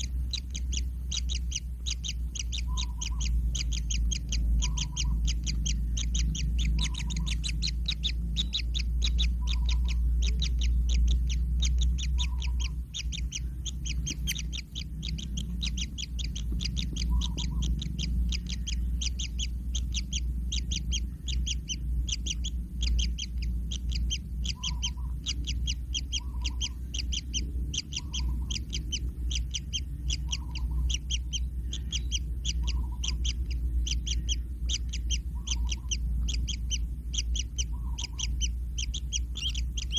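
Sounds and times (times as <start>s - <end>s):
chicks calling high notes: 0.0s - 39.9s
steady low rumble: 0.0s - 39.9s.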